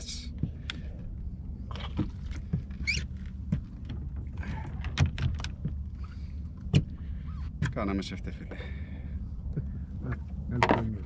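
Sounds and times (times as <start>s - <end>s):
idling boat engine hum: 0.0s - 11.0s.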